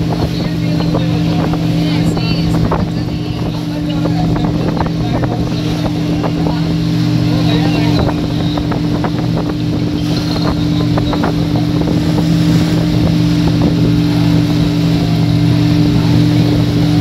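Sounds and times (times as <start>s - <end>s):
motorboat engine drone: 0.0s - 17.0s
water rushing: 0.0s - 17.0s
water splashes: 0.0s - 17.0s.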